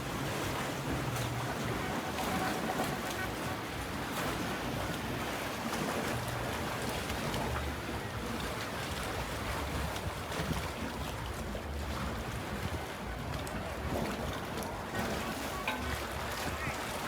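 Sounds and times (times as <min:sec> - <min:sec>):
wind and sea water rushing: 0:00.0 - 0:17.0.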